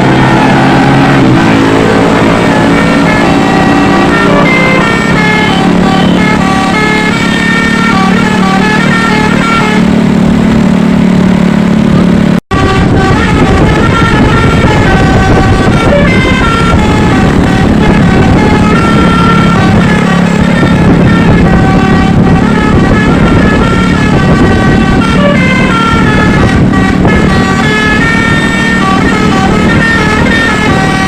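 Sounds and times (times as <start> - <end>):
bus horn playing a melody: 0.0 - 10.8, 11.7 - 31.0.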